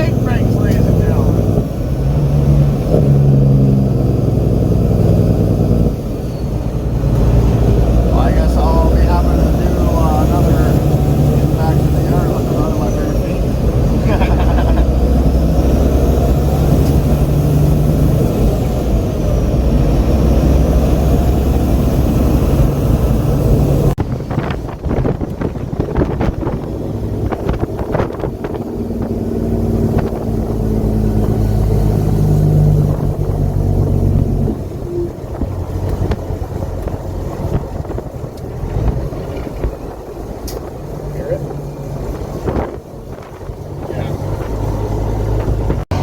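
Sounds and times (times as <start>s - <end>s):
diesel truck engine running: 0.0s - 46.0s
wind noise on microphone: 0.0s - 46.0s.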